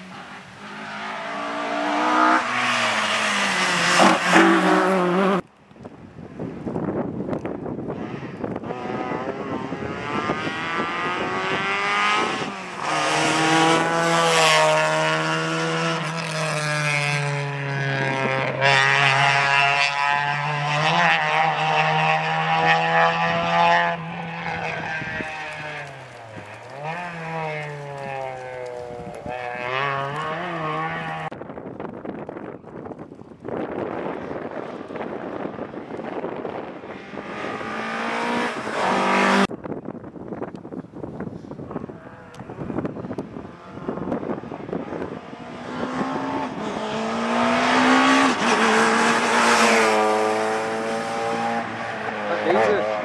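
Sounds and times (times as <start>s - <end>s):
rally car engine at high revs: 0.0s - 5.4s, 7.9s - 31.3s, 35.5s - 39.5s, 42.0s - 53.0s.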